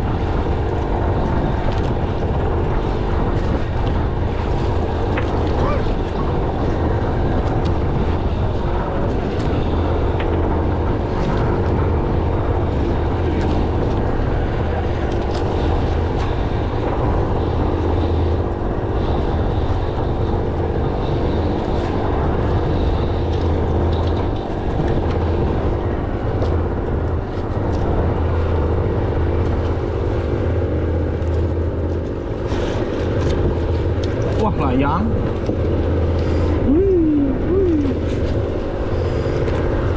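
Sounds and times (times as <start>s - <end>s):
engine humming: 0.0s - 39.9s
noisy wash: 0.0s - 39.9s.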